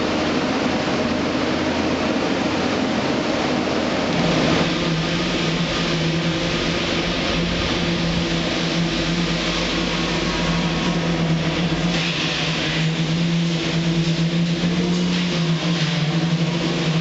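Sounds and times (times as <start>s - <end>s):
construction machinery humming: 0.0s - 17.0s.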